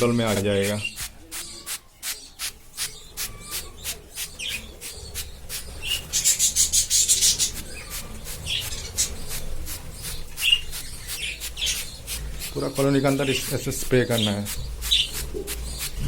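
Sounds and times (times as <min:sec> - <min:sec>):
budgerigars chirping: 0:00.0 - 0:16.0
hissing mist spray: 0:00.6 - 0:06.5, 0:07.1 - 0:16.0.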